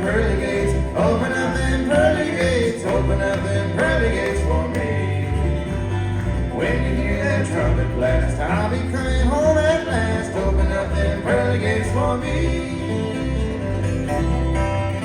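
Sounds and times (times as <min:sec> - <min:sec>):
acoustic guitar: 0:00.0 - 0:15.0
upright bass: 0:00.0 - 0:15.0.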